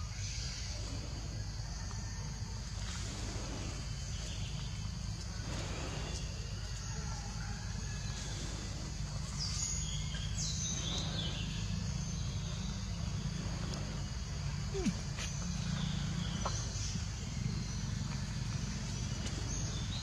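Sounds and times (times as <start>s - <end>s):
steady low rumble: 0.2s - 20.0s.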